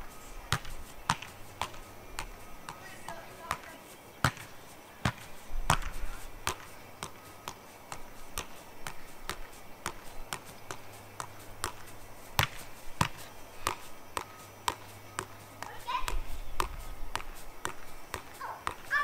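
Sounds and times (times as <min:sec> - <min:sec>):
soccer ball taps: 0:00.5 - 0:19.0.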